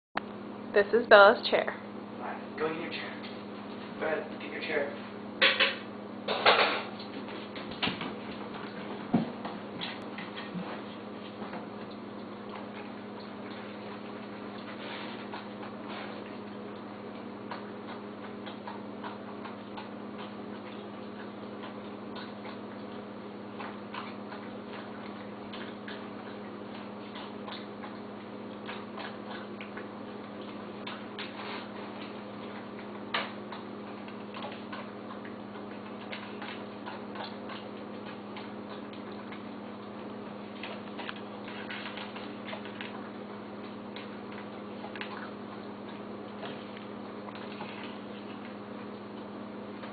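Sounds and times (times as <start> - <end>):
low electrical hum: 0.2 - 49.9
dog eating from dish: 2.7 - 49.9.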